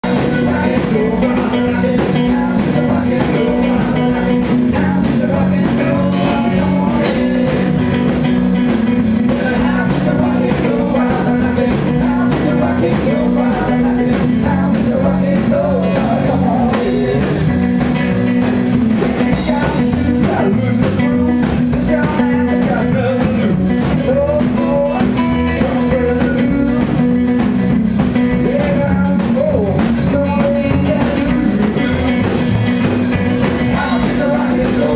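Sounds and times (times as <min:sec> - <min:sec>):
person singing: 0:00.0 - 0:17.9, 0:19.0 - 0:34.9
rock and roll band playing: 0:00.0 - 0:34.9.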